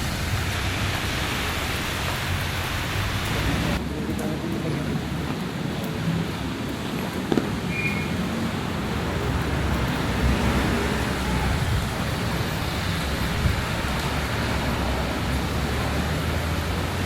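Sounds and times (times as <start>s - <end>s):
heavy rain: 0.0s - 17.0s
road traffic going by: 0.0s - 17.0s.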